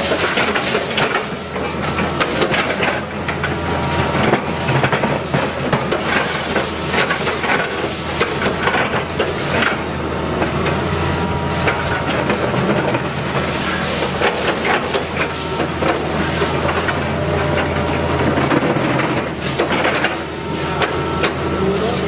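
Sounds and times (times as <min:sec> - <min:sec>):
excavator engine humming: 0:00.0 - 0:22.0
hydraulic pulverizer crushing concrete: 0:00.0 - 0:22.0.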